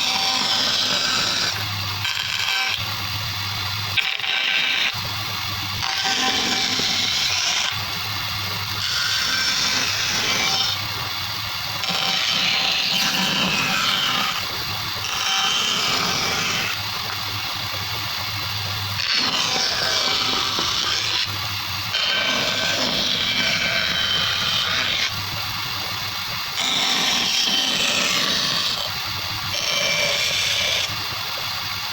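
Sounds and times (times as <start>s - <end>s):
motor hum: 0.0s - 31.9s
power tools cutting wood: 0.0s - 31.9s.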